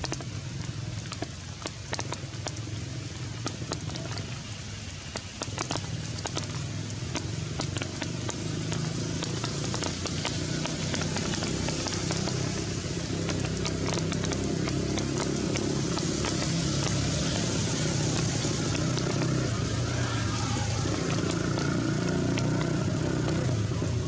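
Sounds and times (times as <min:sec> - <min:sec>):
raindrops ticking close by: 0:00.0 - 0:24.0
heavy rain falling: 0:02.7 - 0:24.0.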